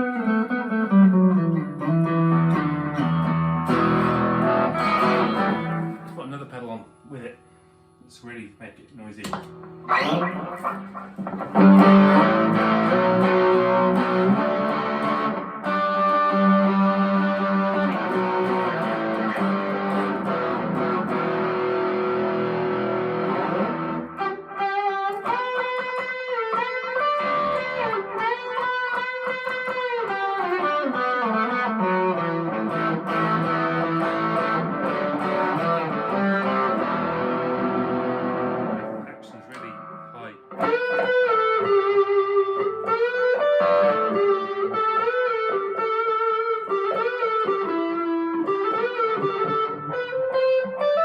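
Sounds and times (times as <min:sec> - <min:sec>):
overdriven electric guitar: 0:00.0 - 0:07.9, 0:09.2 - 0:51.0.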